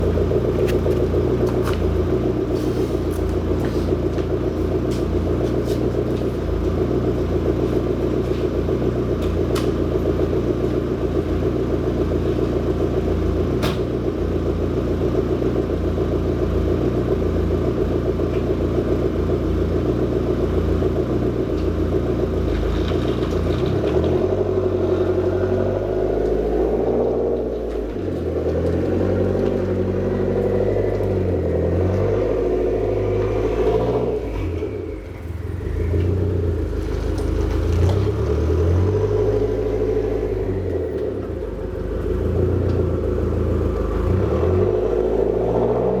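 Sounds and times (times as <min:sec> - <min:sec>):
car engine deep rumble: 0:00.0 - 0:46.0.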